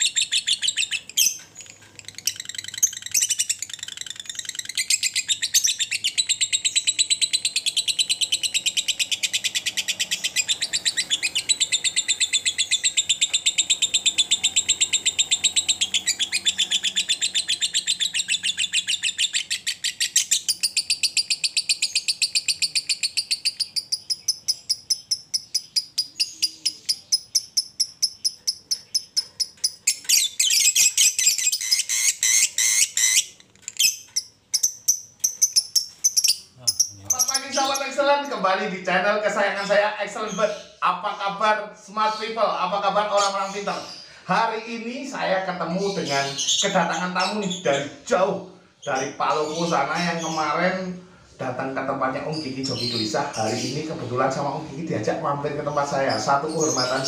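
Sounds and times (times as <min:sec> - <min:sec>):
lovebird chattering: 0:00.0 - 0:57.0.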